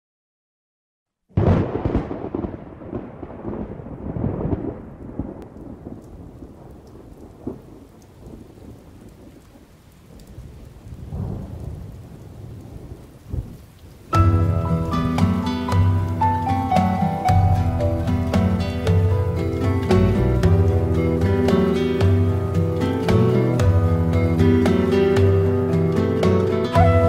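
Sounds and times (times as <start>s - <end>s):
loud thunderclap: 1.4s - 25.4s
rolling thunder: 1.4s - 27.0s
steady rain: 1.4s - 27.0s.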